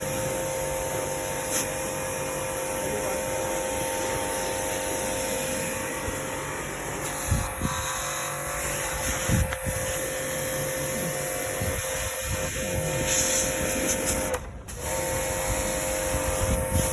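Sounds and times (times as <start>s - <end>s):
motor humming steadily: 0.0s - 16.9s.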